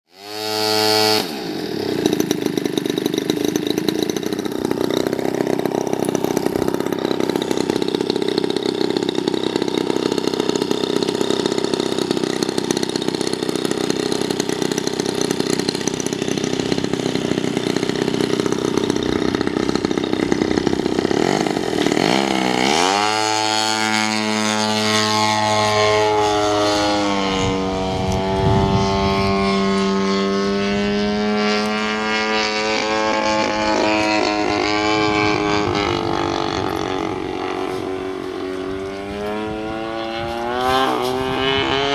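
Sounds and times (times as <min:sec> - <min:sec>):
model plane engine and propeller: 0:00.1 - 0:41.9.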